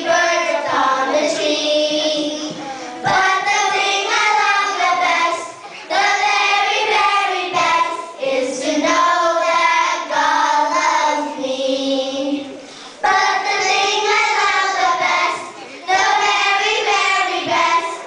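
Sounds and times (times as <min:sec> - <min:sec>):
children singing in unison: 0:00.0 - 0:18.0.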